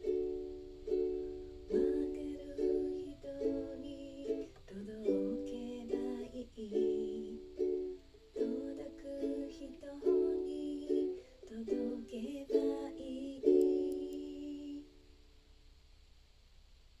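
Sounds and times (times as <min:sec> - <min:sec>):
ukulele strumming chords: 0:00.0 - 0:15.1.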